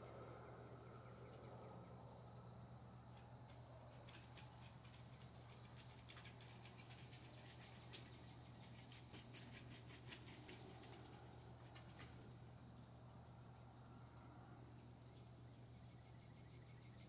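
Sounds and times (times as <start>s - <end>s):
faint irregular ticks: 0.0s - 17.0s.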